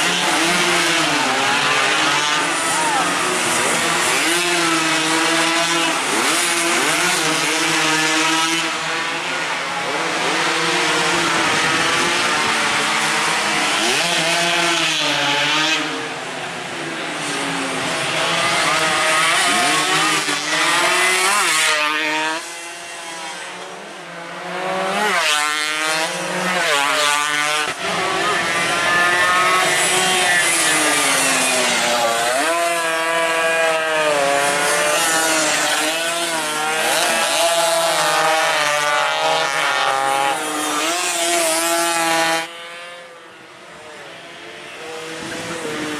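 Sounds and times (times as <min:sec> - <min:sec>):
racing motorcycles at high revs: 0:00.0 - 0:45.9.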